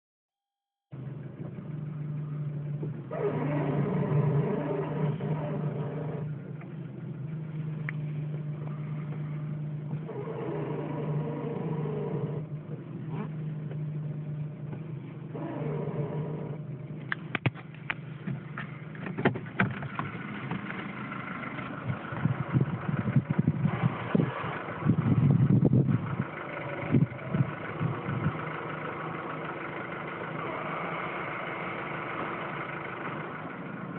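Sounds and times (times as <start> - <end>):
car engine humming: 0.9 - 33.9.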